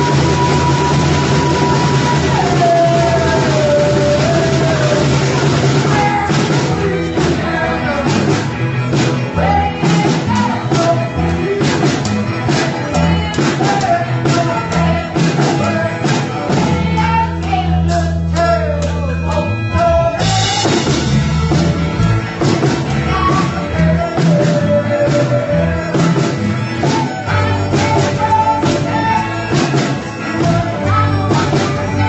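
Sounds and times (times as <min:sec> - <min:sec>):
lead singer singing: 0:00.0 - 0:21.1, 0:22.2 - 0:32.0
rock band playing: 0:00.0 - 0:32.0.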